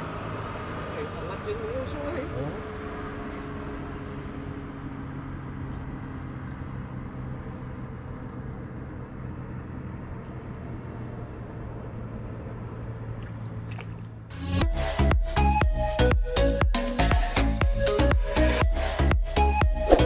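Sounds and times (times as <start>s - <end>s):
outdoor noise: 0.0s - 20.0s.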